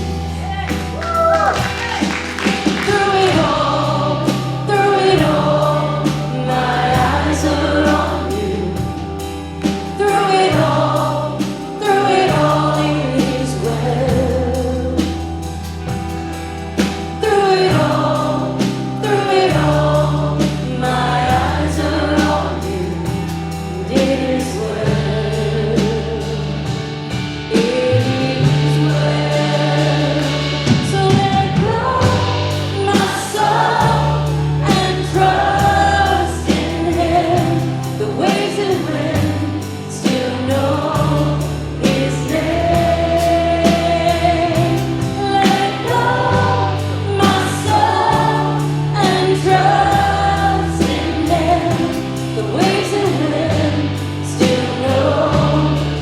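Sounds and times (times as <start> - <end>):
group of voices singing: 0.0 - 16.0, 16.8 - 56.0
band with bass and beat: 0.0 - 56.0.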